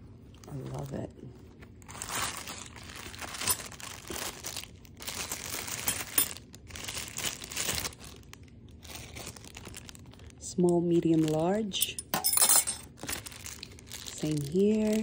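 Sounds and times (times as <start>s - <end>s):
plastic packaging crinkling: 0.2s - 12.0s, 12.8s - 15.0s.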